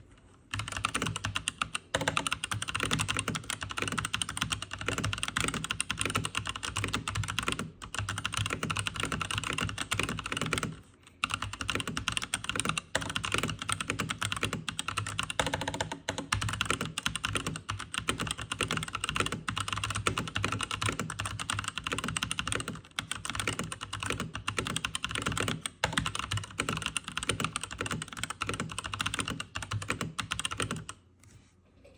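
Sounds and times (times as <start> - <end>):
fast mechanical keyboard typing: 0.5 - 31.0.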